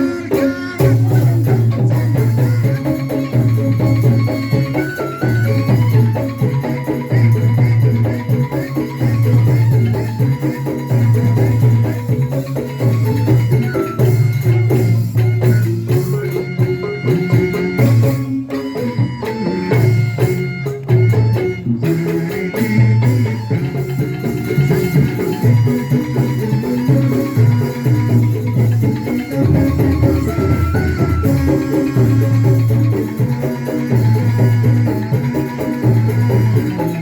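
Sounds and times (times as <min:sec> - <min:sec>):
live instrumental music: 0:00.0 - 0:37.0.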